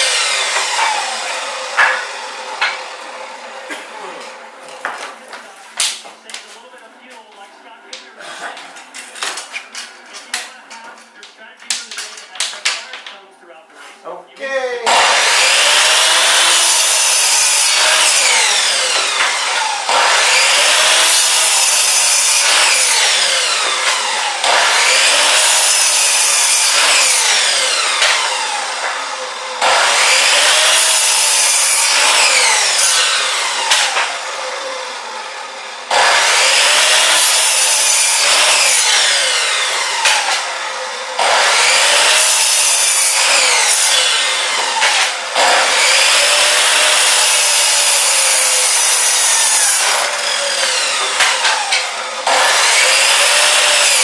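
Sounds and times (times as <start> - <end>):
electric chop saw cutting wood: 0.0 - 5.2, 14.8 - 54.0.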